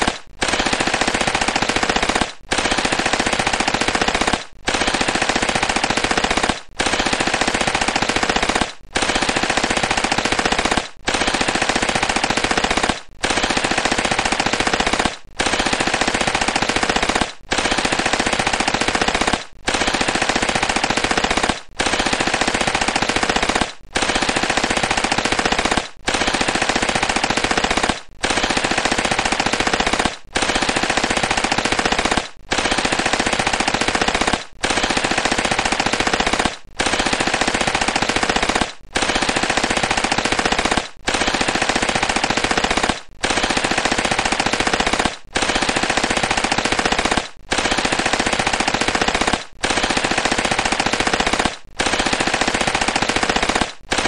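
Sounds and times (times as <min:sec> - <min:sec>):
submachine gun automatic bursts: 0:00.0 - 0:54.0.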